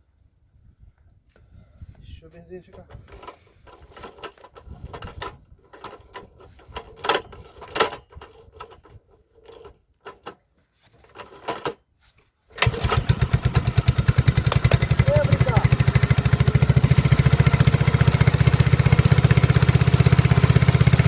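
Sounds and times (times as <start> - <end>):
tractor engine cranking and running: 2.4 - 11.9, 12.5 - 21.0.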